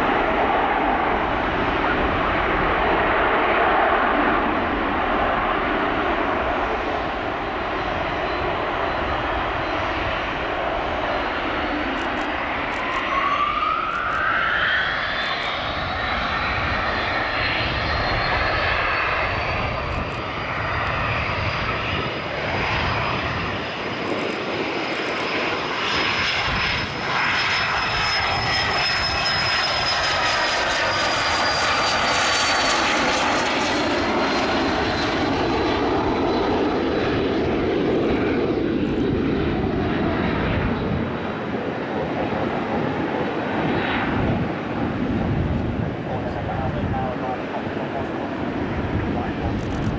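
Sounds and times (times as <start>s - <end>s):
jet engines roaring with high whine: 0.0s - 49.9s.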